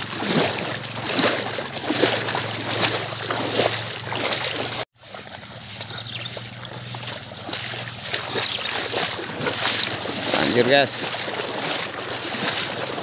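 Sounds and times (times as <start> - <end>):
cow splashing through water: 0.0 - 13.0.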